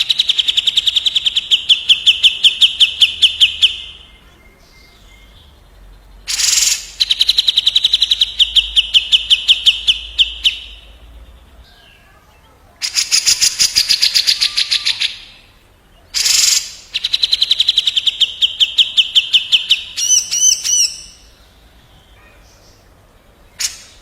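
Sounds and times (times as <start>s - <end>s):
looping bird whistle: 0.0s - 5.4s, 6.3s - 11.1s, 12.8s - 21.4s, 23.5s - 24.0s
birds singing rattling trills: 0.0s - 24.0s.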